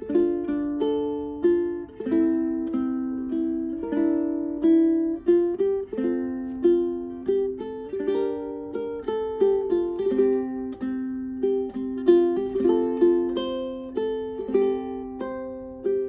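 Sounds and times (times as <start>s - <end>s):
ukulele plucked melody: 0.0s - 16.0s.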